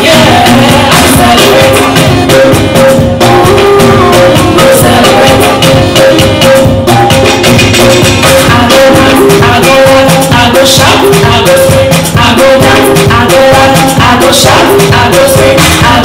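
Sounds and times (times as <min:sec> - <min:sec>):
woman singing into microphone: 0:00.0 - 0:06.9, 0:08.3 - 0:16.0
amplified music with steady beat: 0:00.0 - 0:16.0
shaker-like percussion: 0:00.0 - 0:16.0.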